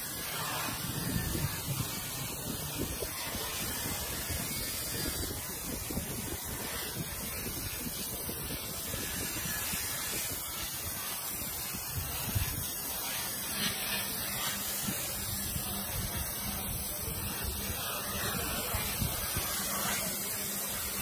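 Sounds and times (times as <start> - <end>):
hiss of assist gas jetting: 0.0 - 21.0.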